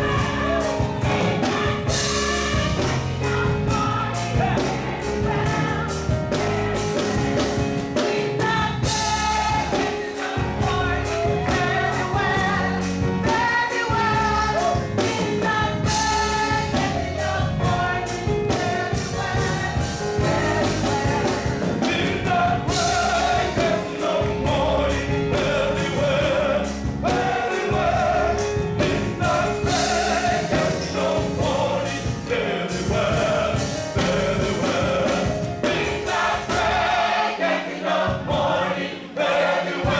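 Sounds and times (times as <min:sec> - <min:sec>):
drums keeping a steady beat: 0:00.0 - 0:39.9
gospel choir singing: 0:00.0 - 0:39.9.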